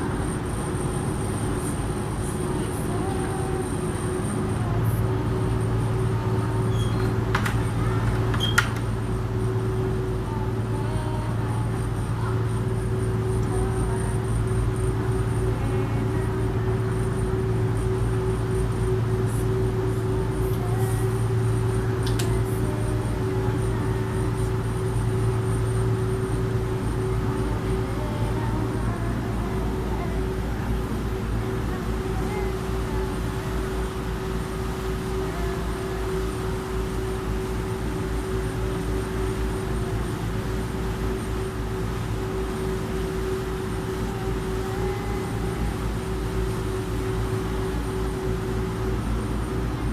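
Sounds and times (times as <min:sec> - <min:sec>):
ferry engine droning: 0:00.0 - 0:49.9.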